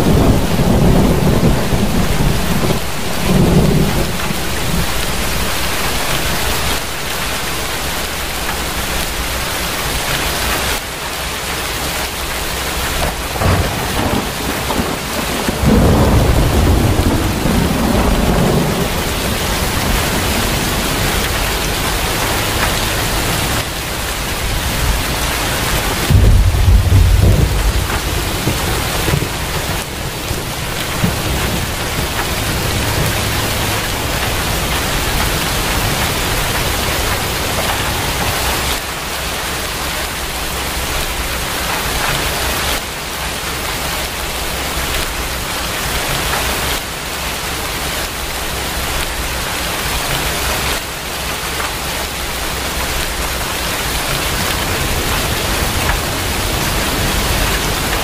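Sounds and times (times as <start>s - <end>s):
thunder rumbling: 0.0s - 10.9s, 12.0s - 42.8s, 51.5s - 58.0s
steady rain: 0.0s - 58.0s.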